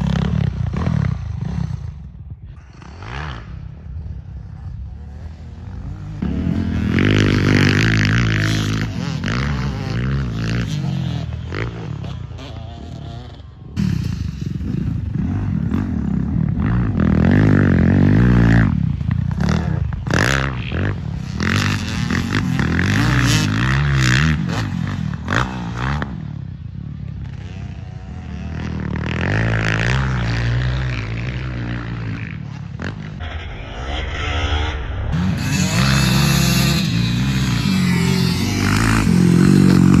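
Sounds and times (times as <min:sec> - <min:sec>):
dirt bike engines revving: 0:00.0 - 0:33.4, 0:35.1 - 0:40.0.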